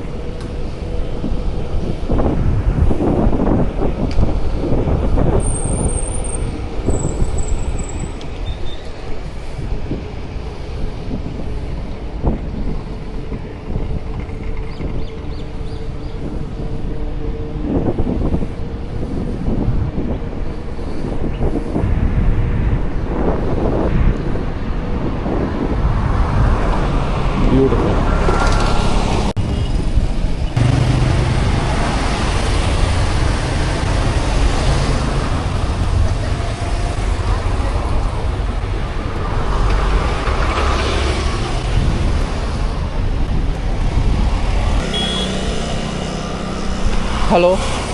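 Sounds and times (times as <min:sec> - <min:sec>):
bicycle road rumble: 0:00.0 - 0:47.9
wind buffeting microphone: 0:00.0 - 0:47.9.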